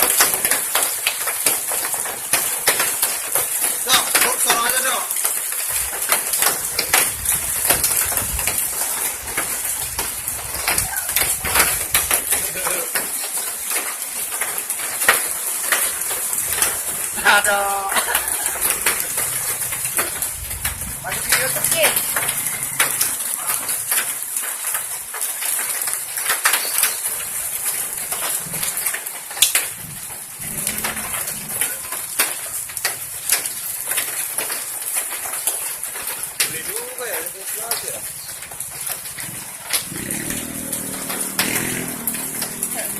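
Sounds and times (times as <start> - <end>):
hailstones clicking on hard surfaces: 0.0 - 42.9
heavy rain hissing: 0.0 - 42.9.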